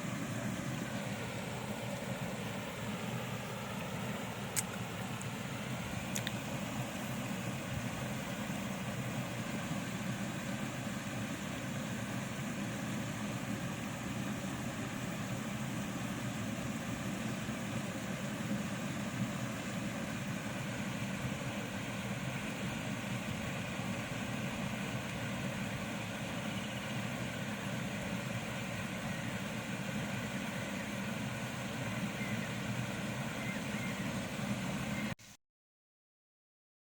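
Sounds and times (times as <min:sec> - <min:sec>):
heavy machinery engine running: 0:00.0 - 0:35.2.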